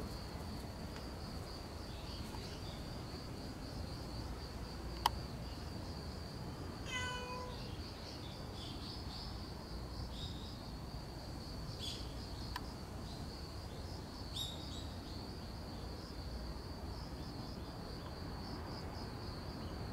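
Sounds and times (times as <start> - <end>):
insects trilling: 0.0 - 19.9.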